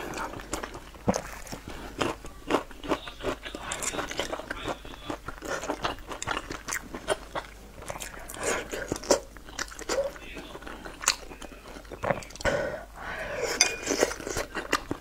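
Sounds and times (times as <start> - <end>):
chewing and biting food: 0.0 - 12.5, 13.7 - 15.0.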